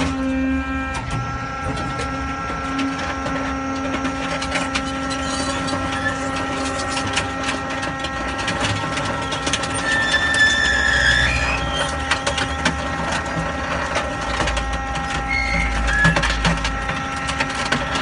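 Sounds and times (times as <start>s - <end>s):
hydraulic pump hum and whine: 0.0s - 18.0s
scattered clicks and crackles: 1.7s - 10.6s, 11.3s - 18.0s.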